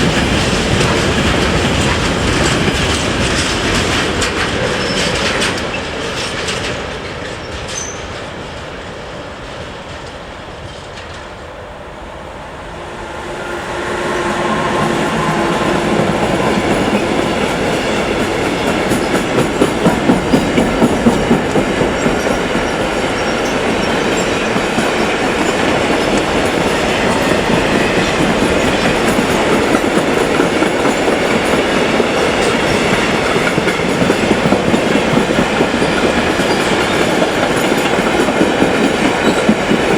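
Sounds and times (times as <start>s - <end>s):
train wheels clattering: 0.0s - 11.5s, 13.2s - 39.9s
train rolling roar: 0.0s - 39.9s.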